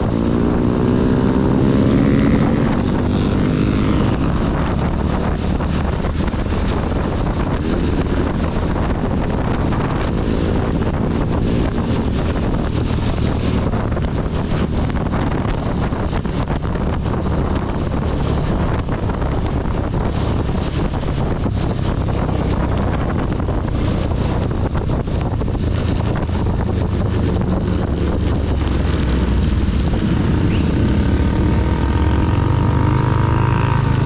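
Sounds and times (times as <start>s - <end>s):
motorcycle engine running: 0.0s - 34.0s
wind and heavy rain on microphone: 0.0s - 34.0s.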